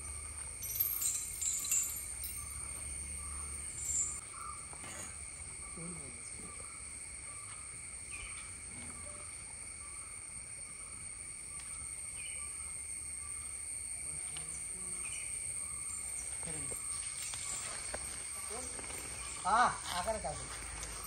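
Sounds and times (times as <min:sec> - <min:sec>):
high-pitched insect chorus: 0:00.0 - 0:21.0
short insect chirps: 0:00.0 - 0:21.0.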